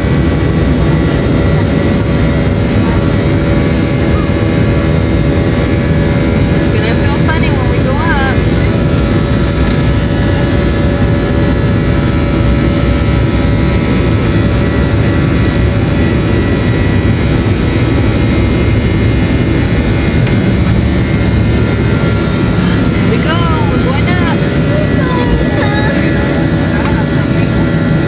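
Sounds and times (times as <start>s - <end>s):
airliner engine rumble: 0.0s - 28.0s.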